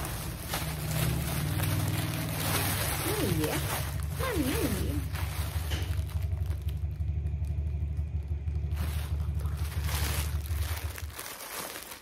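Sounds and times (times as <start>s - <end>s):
low motor hum: 0.0s - 11.8s
plastic packaging rustling: 0.0s - 12.0s.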